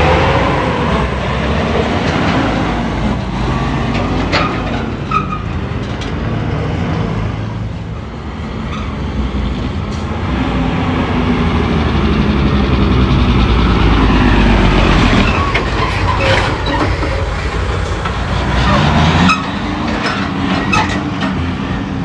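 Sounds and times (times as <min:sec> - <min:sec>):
diesel truck engine under load: 0:00.0 - 0:22.0
road rumble: 0:00.0 - 0:22.0.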